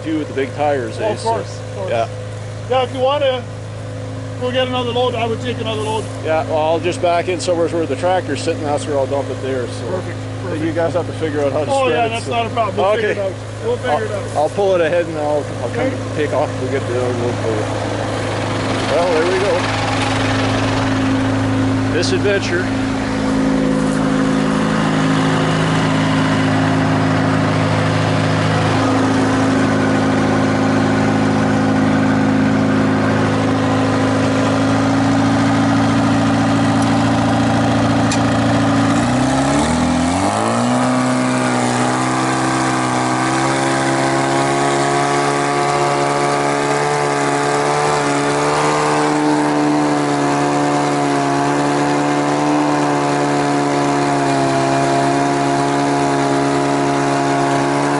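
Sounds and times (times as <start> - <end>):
diesel engine idling and revving: 0.0 - 57.9.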